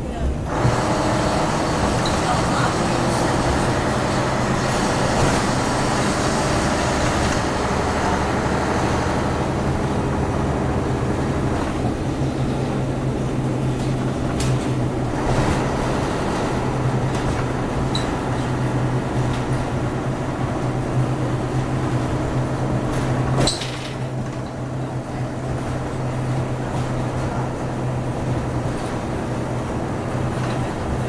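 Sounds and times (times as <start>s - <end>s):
bus diesel engine running: 0.0s - 31.0s
road noise: 0.0s - 31.0s.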